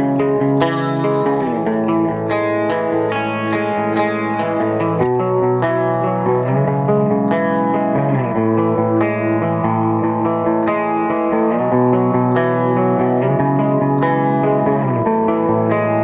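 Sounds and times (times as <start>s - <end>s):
electric guitar strumming chords: 0.0s - 16.0s.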